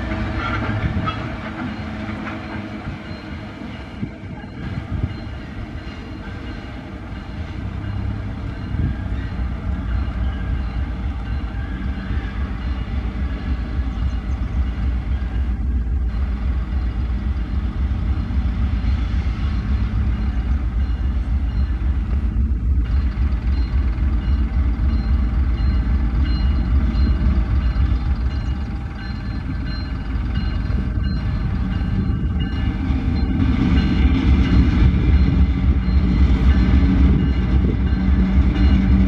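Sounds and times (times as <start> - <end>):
locomotive engine rumbling: 0.0 - 39.0.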